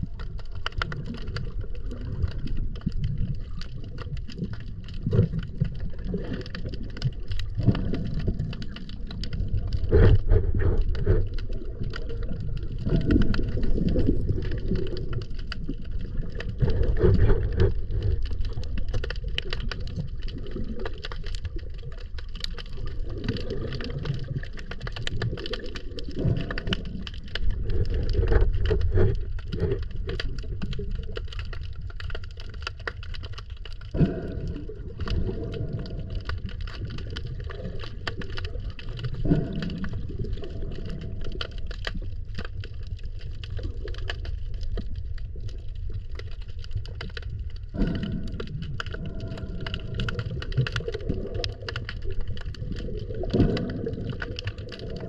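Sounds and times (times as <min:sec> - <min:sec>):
water bubbling and gurgling: 0:00.0 - 0:55.0
water crackling and clicking: 0:00.0 - 0:55.0.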